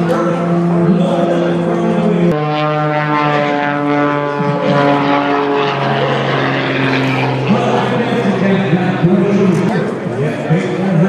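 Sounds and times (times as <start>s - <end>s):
propeller aircraft engine droning: 0.0s - 11.0s.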